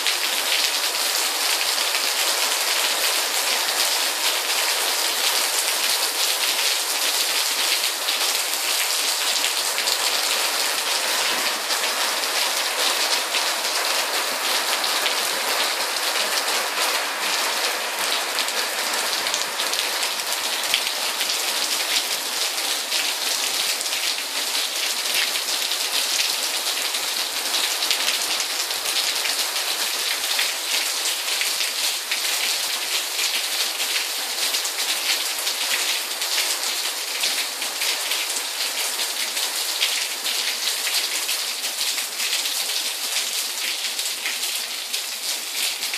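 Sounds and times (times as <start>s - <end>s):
rain on concrete: 0.0s - 45.9s.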